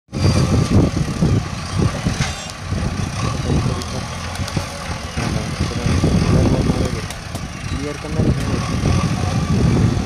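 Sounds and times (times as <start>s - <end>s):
diesel engine running: 0.1s - 10.0s.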